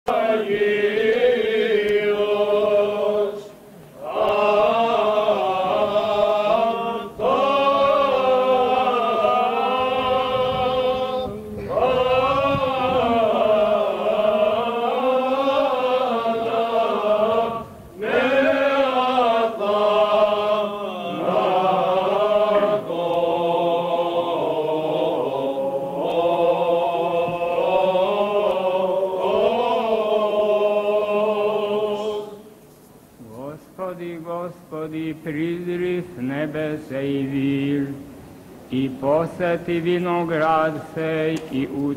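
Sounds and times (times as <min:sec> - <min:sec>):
liturgical chant: 0:00.1 - 0:32.6, 0:33.2 - 0:41.9.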